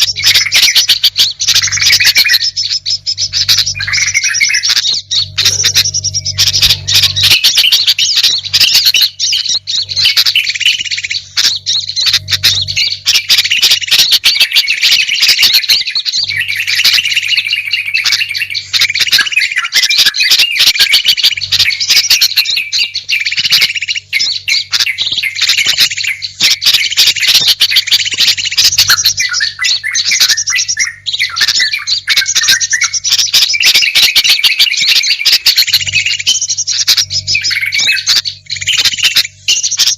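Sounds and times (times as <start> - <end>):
chorus of songbirds chirping: 0.0 - 39.9.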